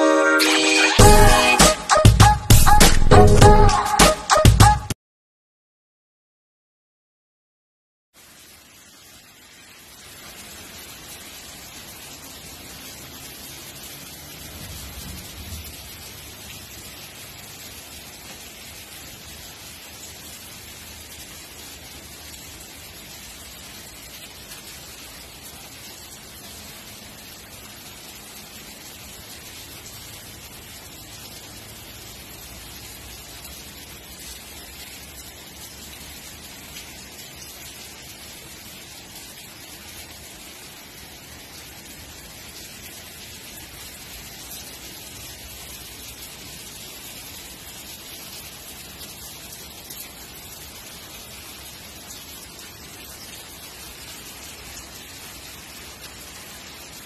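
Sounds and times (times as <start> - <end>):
steady rain falling: 0.0 - 4.6, 8.2 - 57.0.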